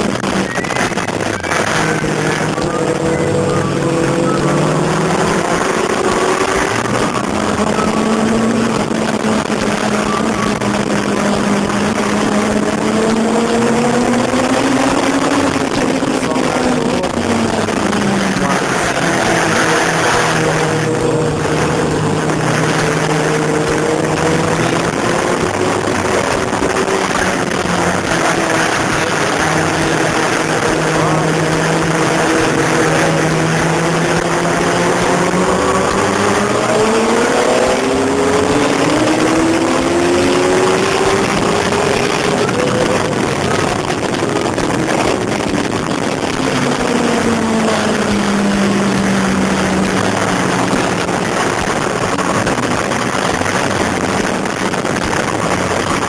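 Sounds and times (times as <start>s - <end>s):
motorcycle engine at high revs: 0.0s - 56.0s
wind rushing: 0.0s - 56.0s.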